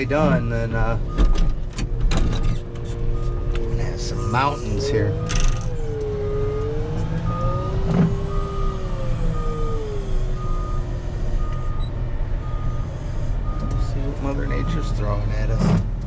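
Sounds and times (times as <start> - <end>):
diesel engine: 0.0 - 16.0
backup alarm beeping: 0.3 - 1.6, 2.2 - 13.9.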